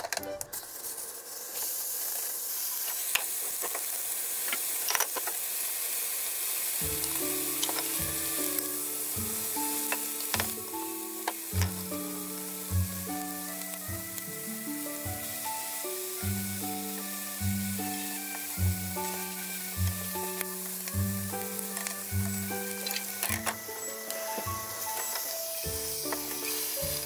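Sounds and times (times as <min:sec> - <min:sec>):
food sizzling in a frying pan: 0:00.5 - 0:27.0.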